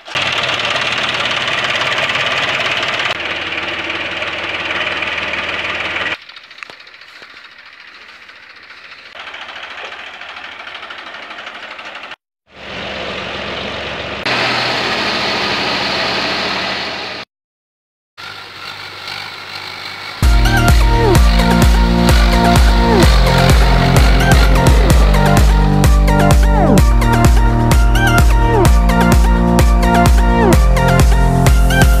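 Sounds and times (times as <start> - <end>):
tractor diesel engine running: 0.0 - 17.2, 18.2 - 32.0.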